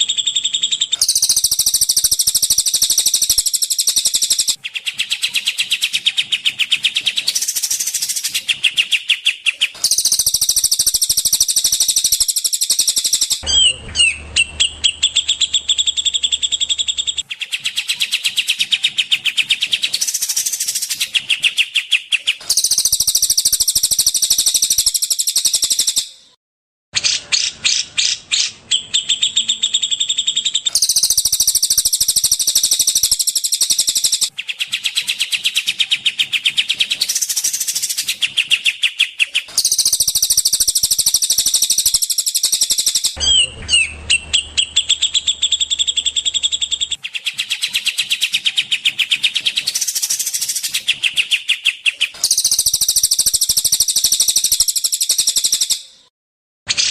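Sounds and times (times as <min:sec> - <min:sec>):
songbird chirping trills: 0:00.0 - 0:26.3, 0:27.0 - 0:56.1.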